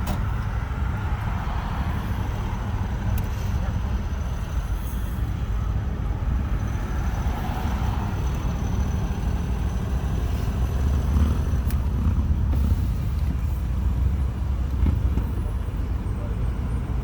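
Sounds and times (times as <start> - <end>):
car engines and traffic rumble: 0.0 - 17.0.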